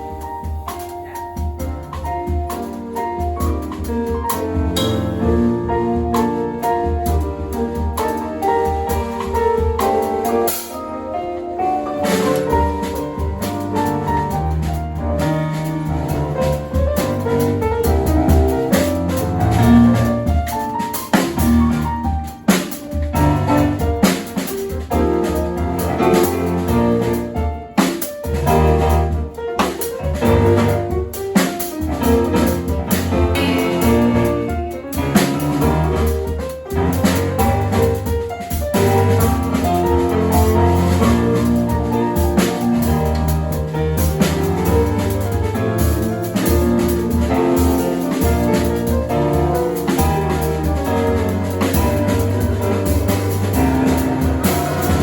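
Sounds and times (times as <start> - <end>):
bass line: 0.0 - 10.4, 12.0 - 22.4, 23.0 - 24.1, 24.9 - 27.4, 28.3 - 31.1, 31.8 - 55.0
drum kit: 0.0 - 55.0
piano: 0.0 - 55.0.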